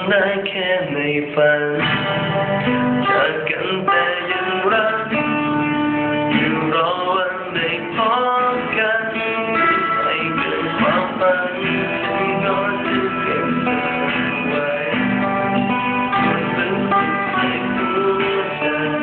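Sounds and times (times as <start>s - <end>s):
pop song guitar with band: 0.0s - 19.0s.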